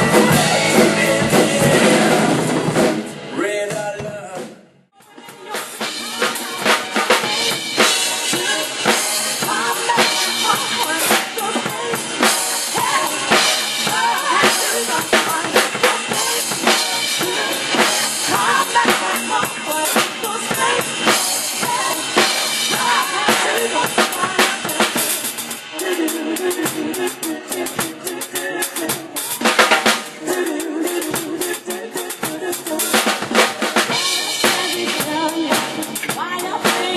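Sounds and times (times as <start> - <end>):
drum kit playing: 0.0 - 36.9.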